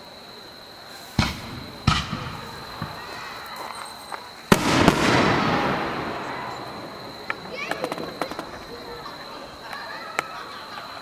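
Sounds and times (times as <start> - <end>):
fireworks bangs: 1.1 - 10.9
faint firework pops: 1.2 - 10.3.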